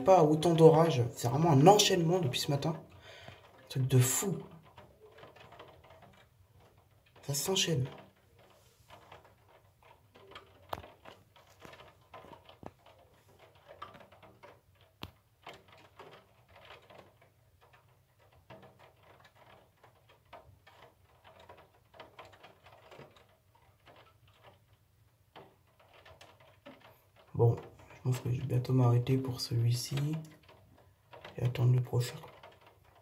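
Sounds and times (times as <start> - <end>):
raindrops on a window: 0.0 - 33.0.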